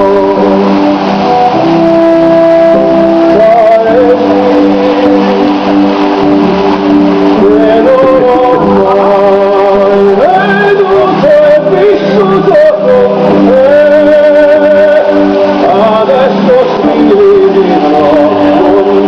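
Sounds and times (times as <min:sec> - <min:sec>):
sustained music backing: 0:00.0 - 0:19.0.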